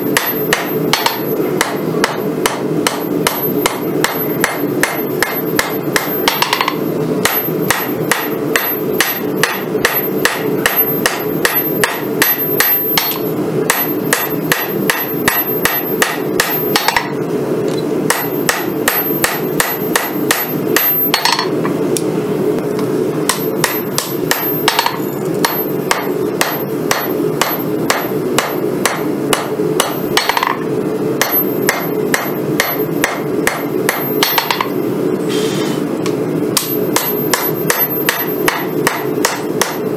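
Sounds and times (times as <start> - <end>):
hammer striking metal on anvil: 0.0 - 17.2, 18.1 - 21.8, 23.2 - 34.8, 36.6 - 39.9.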